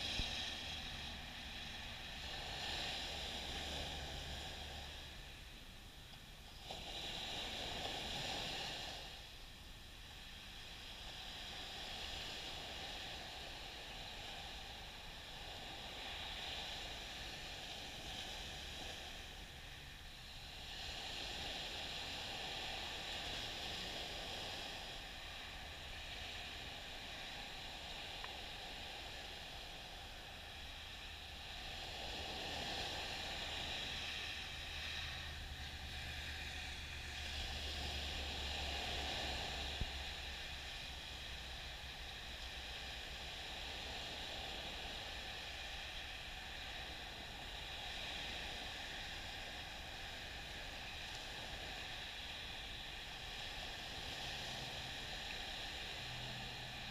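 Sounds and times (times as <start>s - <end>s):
small waves breaking on beach: 0.0s - 56.9s.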